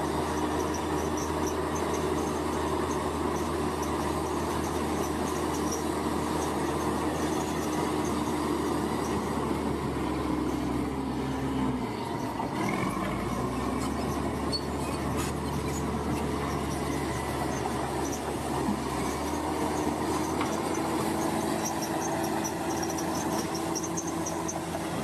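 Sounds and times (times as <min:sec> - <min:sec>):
bulldozer diesel engine running: 0:00.0 - 0:25.0
steel tracks squealing and clanking: 0:00.0 - 0:25.0.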